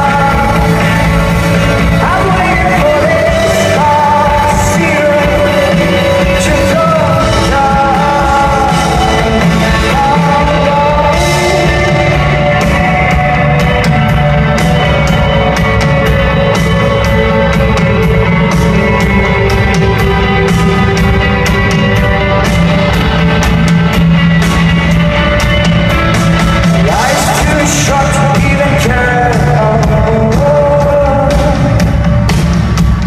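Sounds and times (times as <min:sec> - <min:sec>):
rock band playing live: 0:00.0 - 0:33.0.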